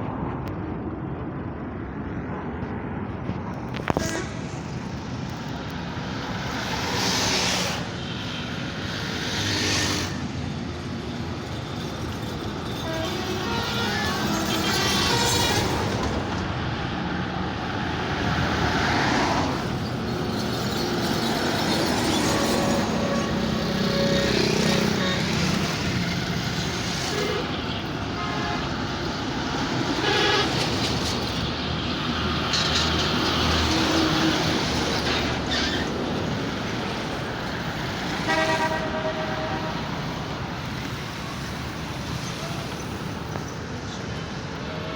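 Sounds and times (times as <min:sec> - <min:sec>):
road traffic noise: 0:00.0 - 0:44.9.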